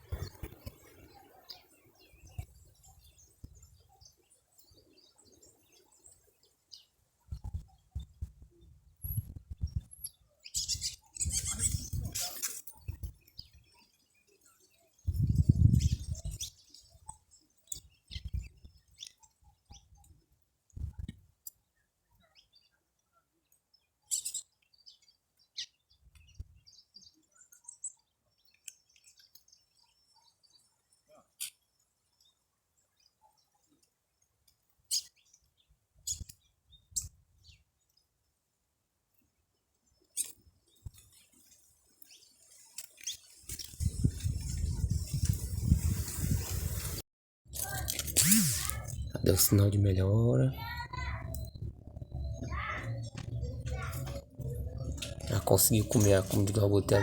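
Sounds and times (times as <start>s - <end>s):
small birds chirping: 0.0s - 46.6s, 47.5s - 57.0s.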